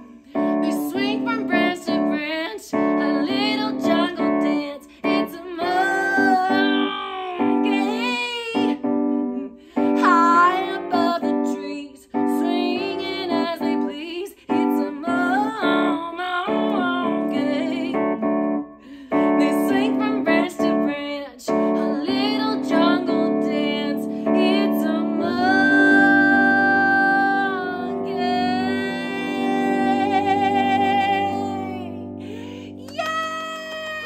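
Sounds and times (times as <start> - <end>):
woman singing: 0.0 - 18.2, 18.9 - 34.0
piano accompaniment: 0.0 - 34.0.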